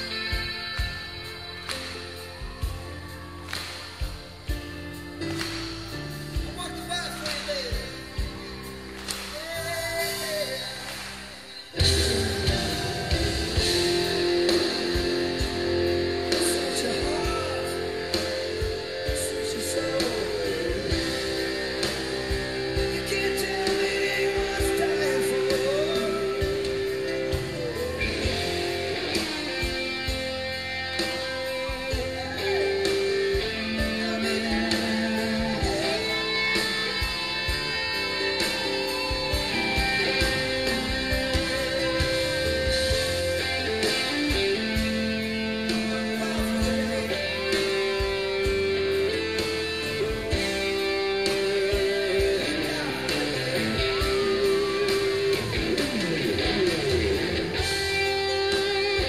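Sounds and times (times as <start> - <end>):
rock song with guitar and singing: 0.0 - 59.0.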